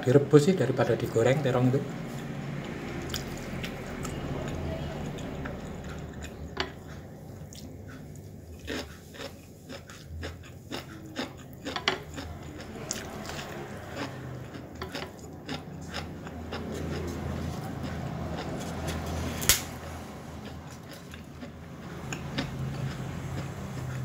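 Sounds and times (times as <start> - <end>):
person chewing: 2.1 - 24.0.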